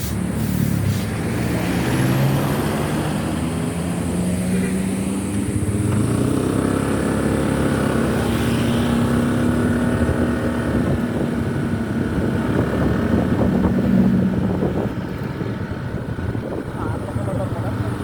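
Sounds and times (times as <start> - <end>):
bus engine running: 0.0 - 18.0
road and wind noise: 0.0 - 18.0.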